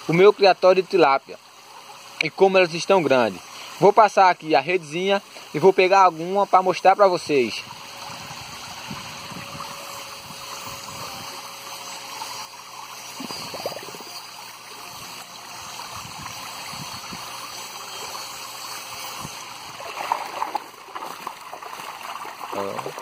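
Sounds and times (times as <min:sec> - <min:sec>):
water jets splashing into tank: 0:00.0 - 0:23.0.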